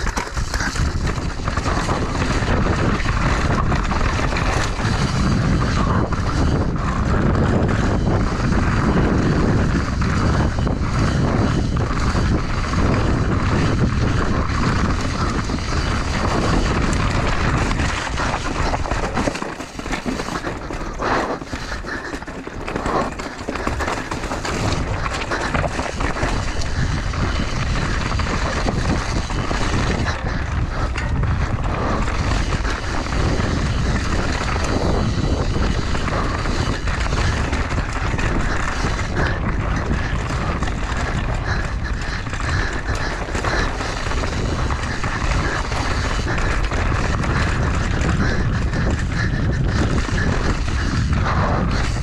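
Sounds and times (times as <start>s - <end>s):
bike rattling: 0.0s - 52.0s
bike tyres over loose rock: 0.0s - 52.0s
wind rush on microphone: 0.0s - 52.0s.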